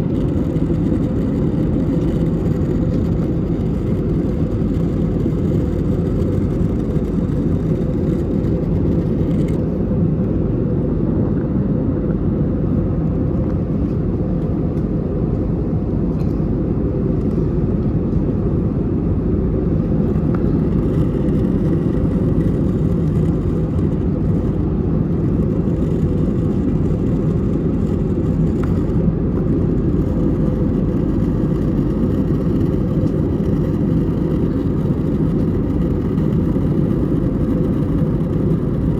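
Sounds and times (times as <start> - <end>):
aircraft cabin engine roar: 0.0 - 38.9.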